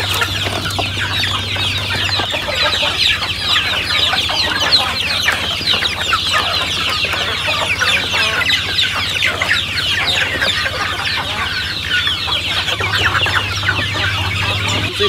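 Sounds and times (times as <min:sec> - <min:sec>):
chickens clucking and peeping: 0:00.0 - 0:15.0.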